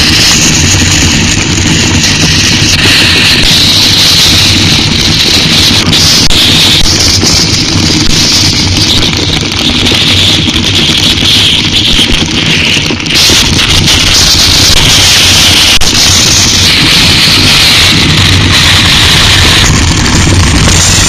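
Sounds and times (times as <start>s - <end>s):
motorcycle engine running: 0.0s - 21.0s
wind and rain noise on microphone: 0.0s - 21.0s.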